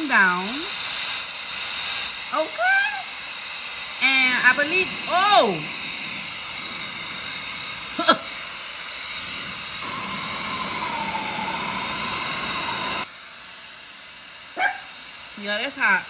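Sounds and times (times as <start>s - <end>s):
hair dryer blowing air: 0.0s - 16.0s
wavering whine: 0.0s - 16.0s.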